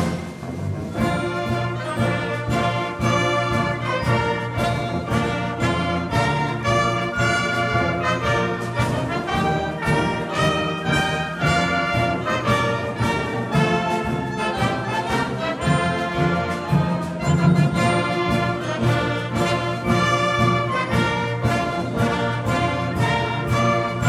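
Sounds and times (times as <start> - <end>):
concert band playing a march: 0.0 - 24.0
percussion strokes: 0.0 - 24.0.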